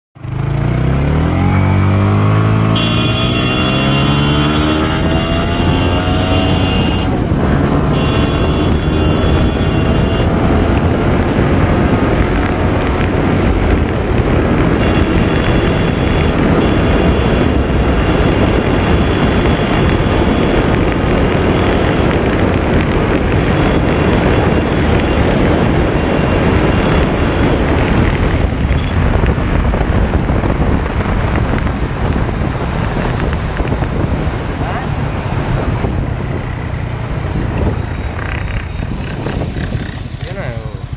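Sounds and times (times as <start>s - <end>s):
motorcycle engine accelerating: 0.2s - 40.9s
wind rushing over microphone: 0.9s - 40.9s.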